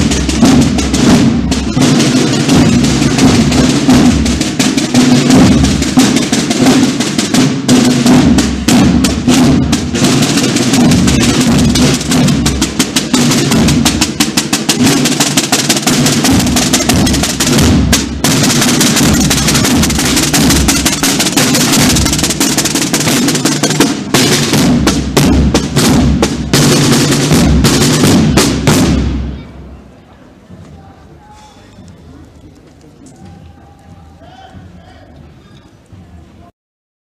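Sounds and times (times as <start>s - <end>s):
marching band drums: 0.0s - 31.5s.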